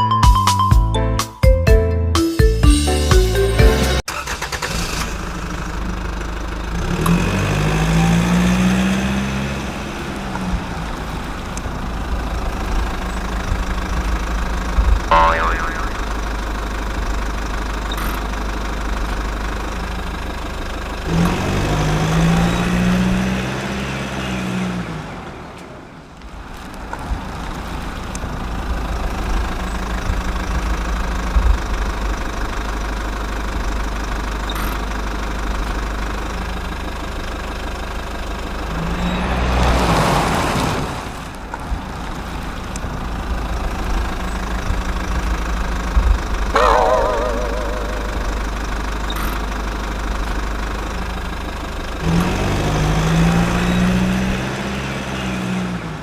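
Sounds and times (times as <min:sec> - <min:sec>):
backhoe loader engine drone: 0:03.4 - 0:56.0.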